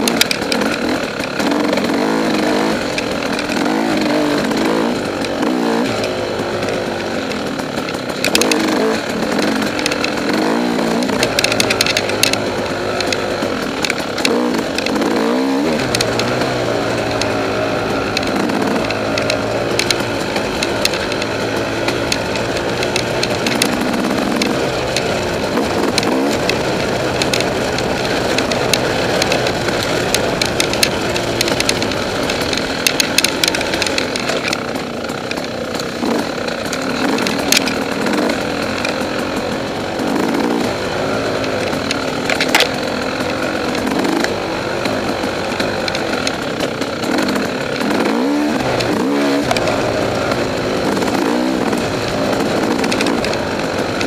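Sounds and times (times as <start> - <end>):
dirt bike engine revving: 0.0 - 54.0
sharp knocks and rattles: 0.0 - 54.0.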